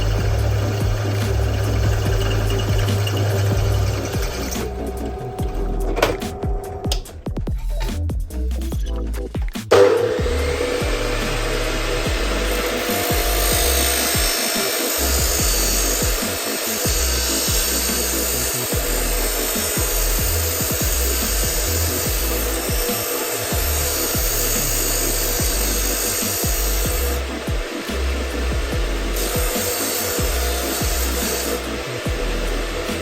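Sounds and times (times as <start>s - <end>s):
power tool rasping wood: 0.0s - 8.0s, 9.7s - 33.0s
background music: 0.0s - 33.0s.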